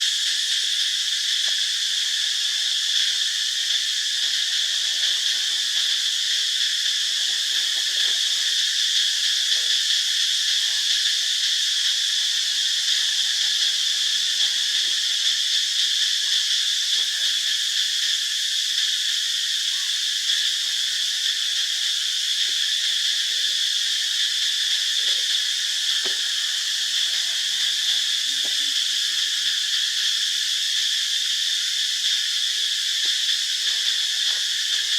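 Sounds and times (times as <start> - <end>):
insect chorus drone: 0.0 - 34.9.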